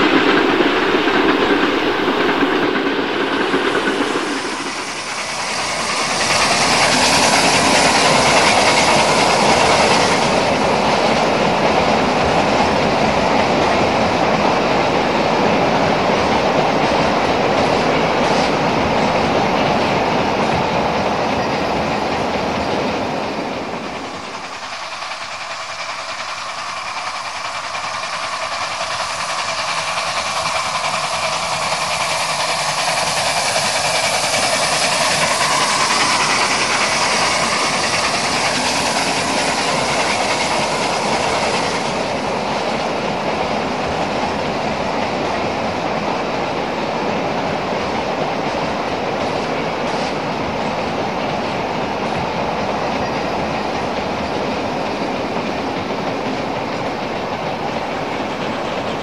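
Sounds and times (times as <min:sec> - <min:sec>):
model train running past: 0:00.0 - 0:59.0.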